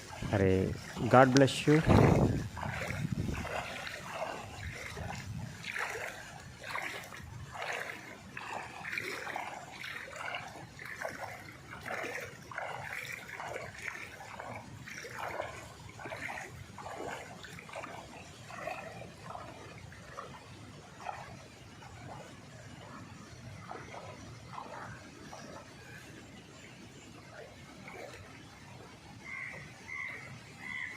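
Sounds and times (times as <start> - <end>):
water splashing and sloshing: 0.0 - 30.9.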